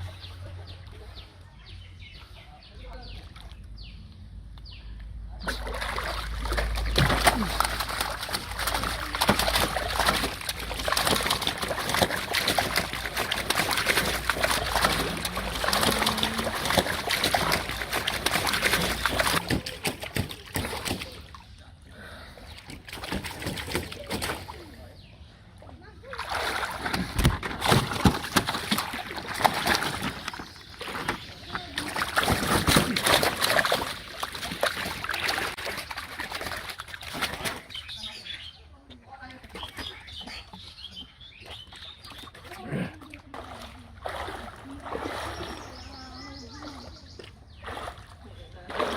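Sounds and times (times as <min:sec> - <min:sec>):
water splashing and sloshing: 0:05.2 - 0:48.9.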